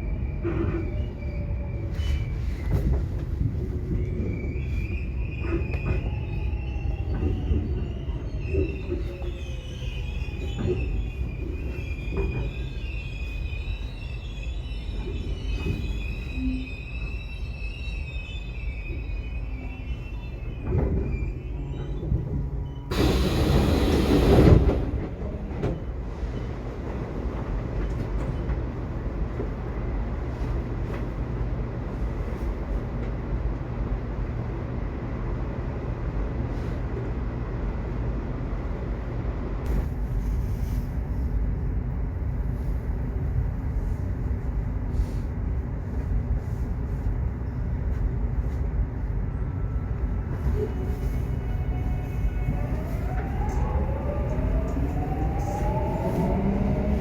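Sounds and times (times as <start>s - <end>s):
subway train rumbling: 0.0s - 57.0s.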